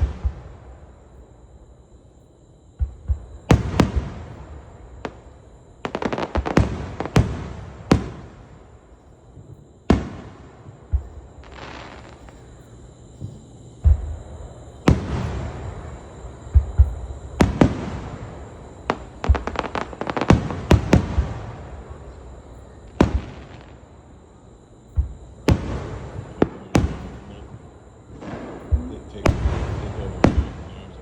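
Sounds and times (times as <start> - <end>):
fireworks bursting: 0.0 - 0.9, 2.8 - 8.8, 9.4 - 24.0, 24.9 - 31.0
fireworks rumble and crackle: 0.0 - 31.0.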